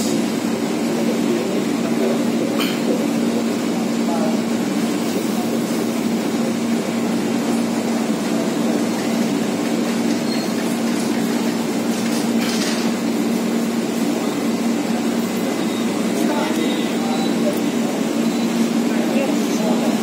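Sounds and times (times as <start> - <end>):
train coaches rolling past: 0.0 - 20.0.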